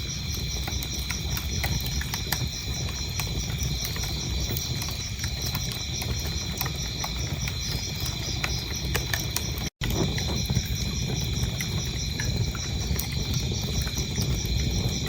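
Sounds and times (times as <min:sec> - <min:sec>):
crickets chirping: 0:00.0 - 0:15.0
wood fire crackling: 0:00.0 - 0:15.0.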